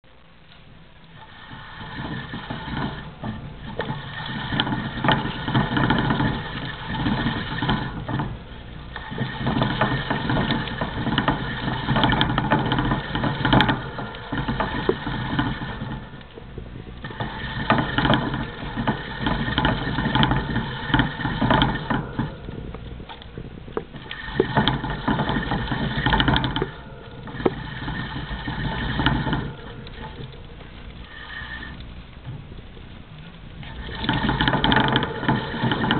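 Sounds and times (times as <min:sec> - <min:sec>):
exercise wheel spinning and rattling: 0:00.0 - 0:35.9.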